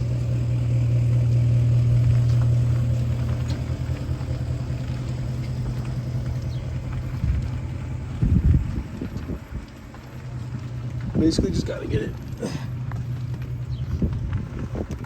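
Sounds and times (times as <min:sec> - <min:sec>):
pickup truck engine humming: 0:00.0 - 0:15.0.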